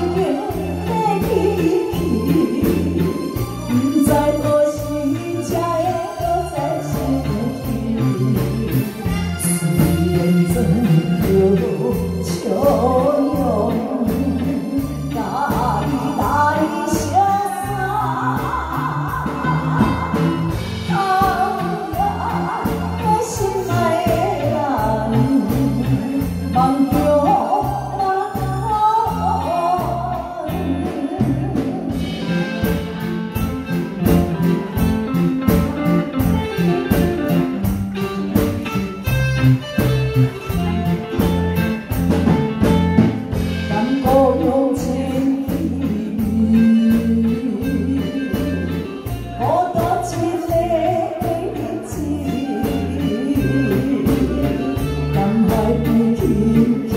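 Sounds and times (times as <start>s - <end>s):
woman singing: 0.0s - 39.1s, 40.4s - 56.9s
live band playing slow ballad: 0.0s - 56.9s.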